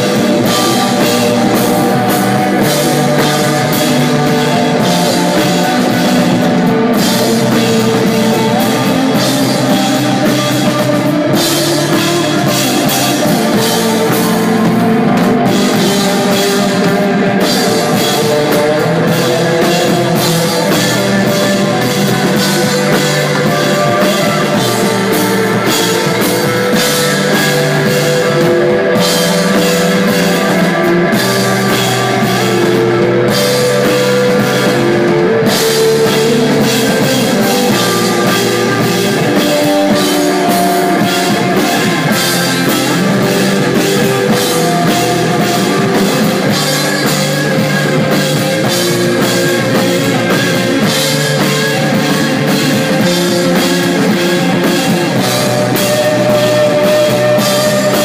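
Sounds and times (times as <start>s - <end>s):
drum kit beat: 0.0s - 58.0s
rock band playing live: 0.0s - 58.0s.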